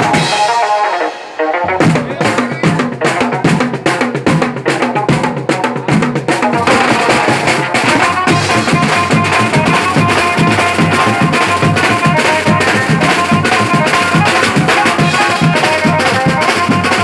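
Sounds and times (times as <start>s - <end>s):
banjo band playing: 0.0s - 17.0s
fast driving drum beat: 0.0s - 17.0s.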